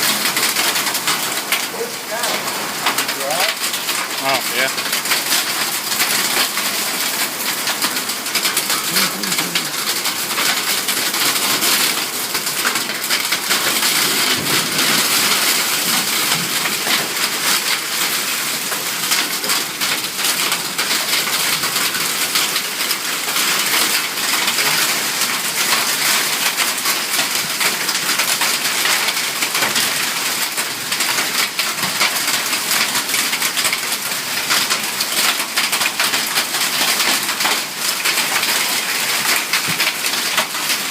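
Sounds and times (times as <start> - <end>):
hail and heavy rain: 0.0 - 40.9.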